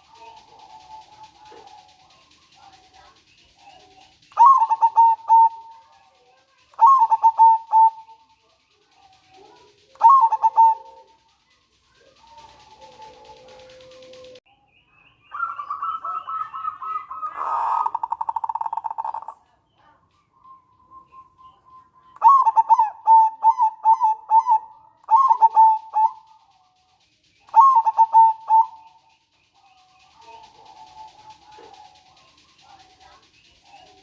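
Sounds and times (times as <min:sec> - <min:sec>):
dove cooing: 0:00.0 - 0:14.4, 0:15.3 - 0:20.0, 0:21.0 - 0:34.0
dove rattling trill: 0:00.0 - 0:14.4, 0:15.3 - 0:34.0.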